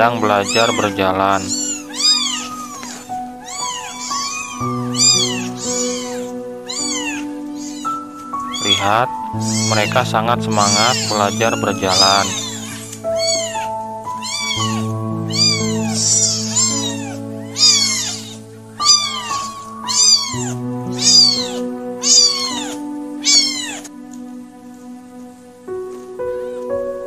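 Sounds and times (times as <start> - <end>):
kittens mewing: 0.0 - 23.9.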